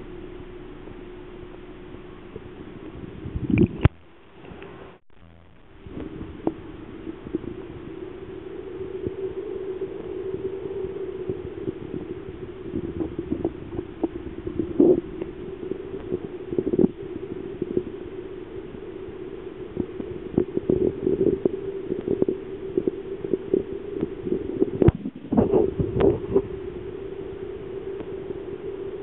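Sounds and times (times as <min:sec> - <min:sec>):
underwater mechanical hum: 0:00.0 - 0:29.0.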